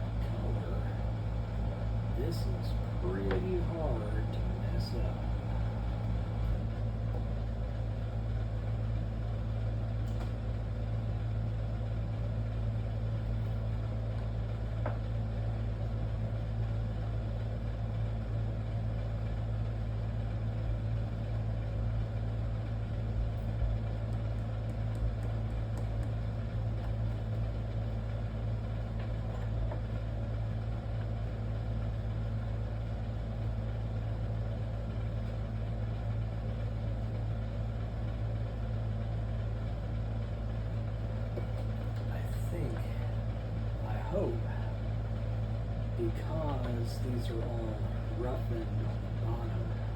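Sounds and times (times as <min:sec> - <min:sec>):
low mechanical hum: 0:00.0 - 0:49.9.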